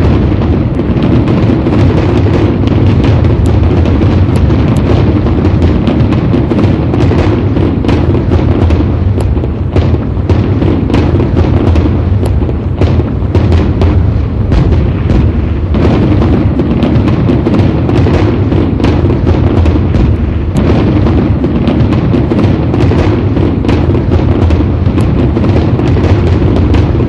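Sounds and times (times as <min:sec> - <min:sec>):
continuous loud rumble: 0:00.0 - 0:27.0
fireworks bangs and crackles: 0:00.0 - 0:27.0.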